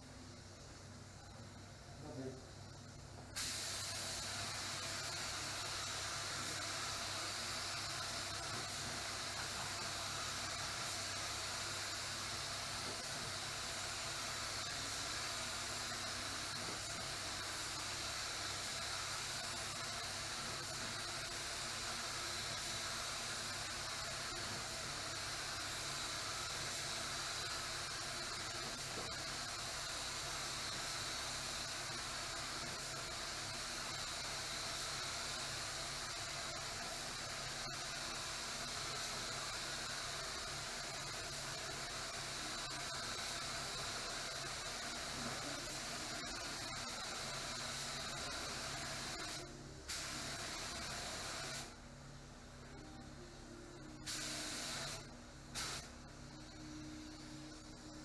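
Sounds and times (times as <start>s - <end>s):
spray gun hissing: 3.4s - 51.8s, 54.0s - 55.9s.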